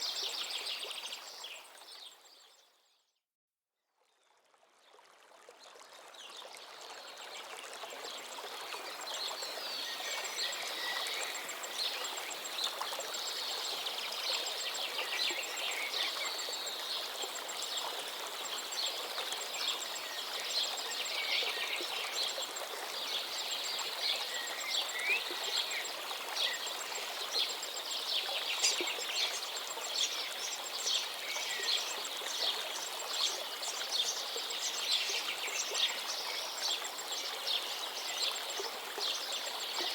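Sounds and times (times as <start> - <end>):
stream water running: 0.0 - 2.6, 4.2 - 39.9.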